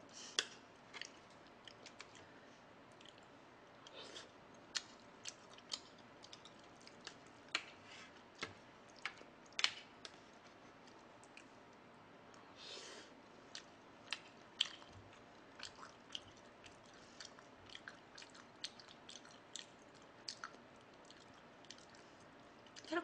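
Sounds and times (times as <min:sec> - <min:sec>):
soft chewing: 0:00.0 - 0:23.0.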